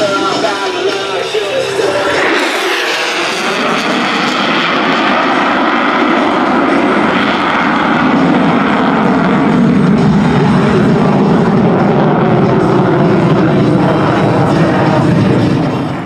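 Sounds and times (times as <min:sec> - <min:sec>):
jet engine in afterburner: 0:00.0 - 0:16.0.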